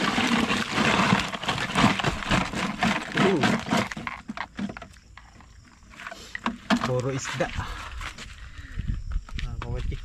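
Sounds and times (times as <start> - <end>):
fish and crabs clattering into basin: 0.0 - 10.0.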